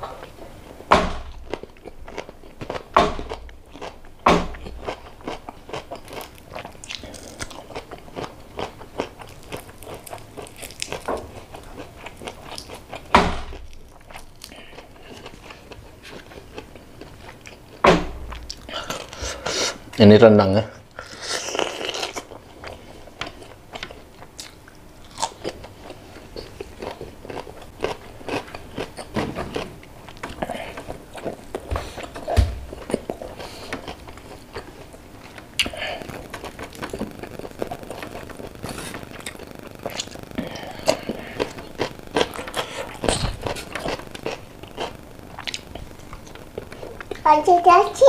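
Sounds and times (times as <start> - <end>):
person chewing and crunching: 1.3 - 20.0, 20.8 - 47.3.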